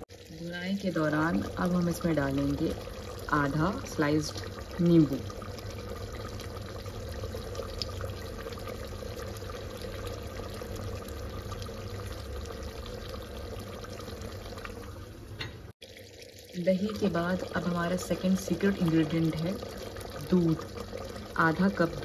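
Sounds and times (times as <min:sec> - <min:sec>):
broth bubbling in a pot: 0:00.0 - 0:22.0.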